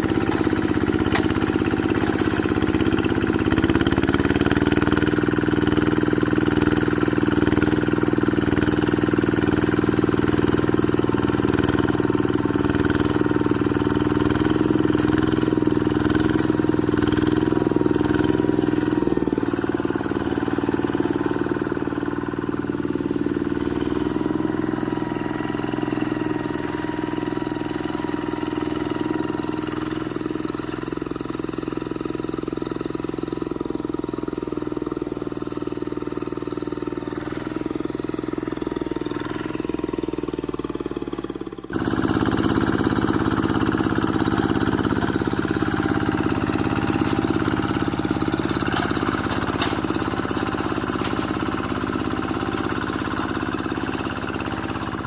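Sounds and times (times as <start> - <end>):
hand tractor engine running: 0.0 - 55.0.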